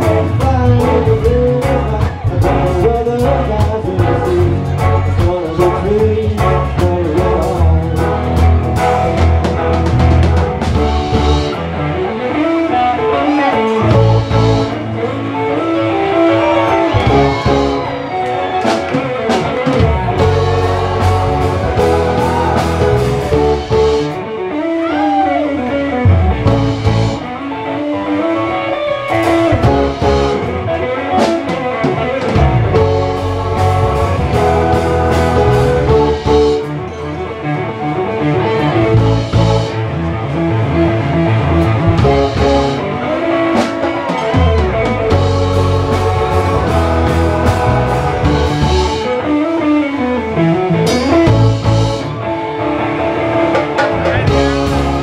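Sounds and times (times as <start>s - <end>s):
drum kit: 0.0s - 12.5s, 13.3s - 15.2s, 16.4s - 25.3s, 25.9s - 27.4s, 29.1s - 36.8s, 38.6s - 49.8s, 50.7s - 52.2s, 53.2s - 55.0s
electric guitar: 0.0s - 55.0s
keyboards: 0.0s - 55.0s.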